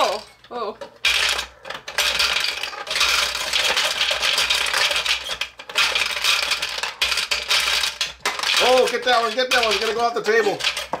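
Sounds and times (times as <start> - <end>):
marbles rattling and clicking: 0.0 - 11.0.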